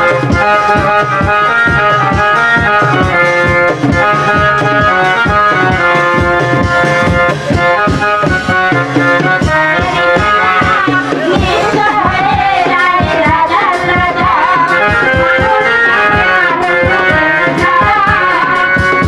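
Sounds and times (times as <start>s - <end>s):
hand drum rhythm: 0.0s - 19.0s
held melody line: 0.0s - 19.0s.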